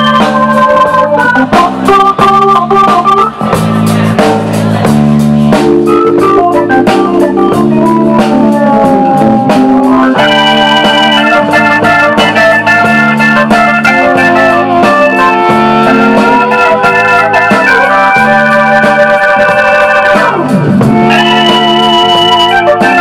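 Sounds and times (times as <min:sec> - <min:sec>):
drum kit: 0:00.0 - 0:23.0
live band instrumental: 0:00.0 - 0:23.0
organ-toned keyboard chords: 0:00.0 - 0:23.0.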